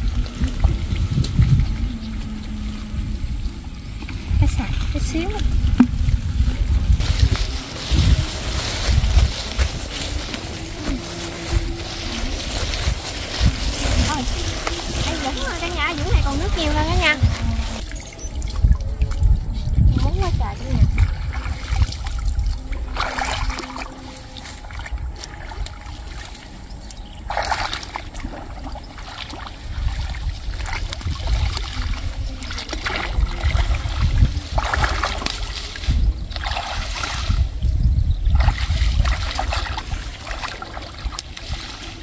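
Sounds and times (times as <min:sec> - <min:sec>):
muddy water splashing: 0:00.0 - 0:42.0.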